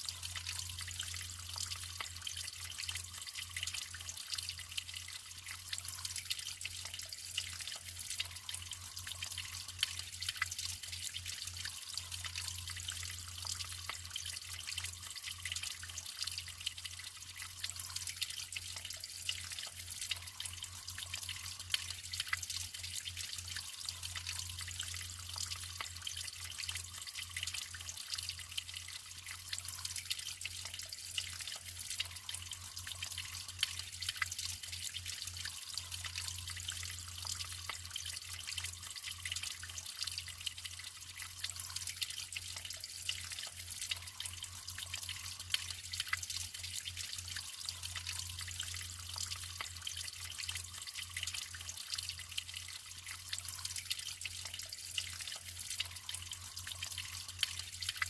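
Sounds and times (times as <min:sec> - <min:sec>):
water dripping: 0:00.0 - 0:58.0
water trickling and splashing: 0:00.0 - 0:58.0.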